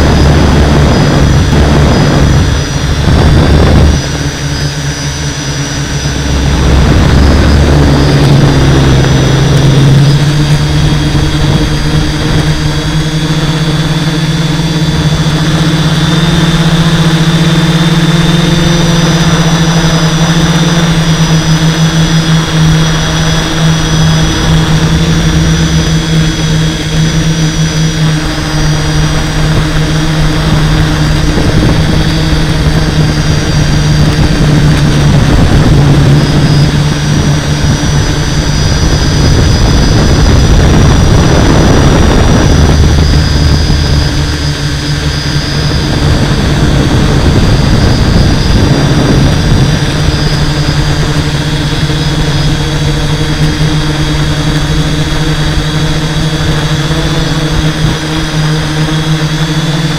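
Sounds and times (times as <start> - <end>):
drone motors and propellers: 0.0 - 59.9.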